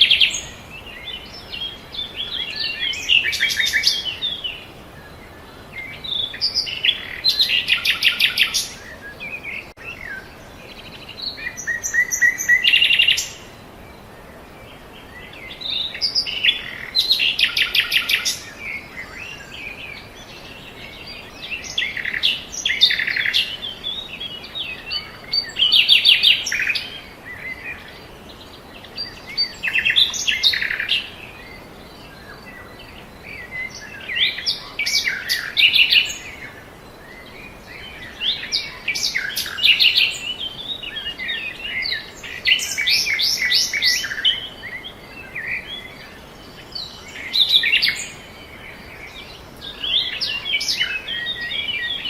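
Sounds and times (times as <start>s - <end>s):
songbirds trilling and chirping: 0.0s - 52.0s.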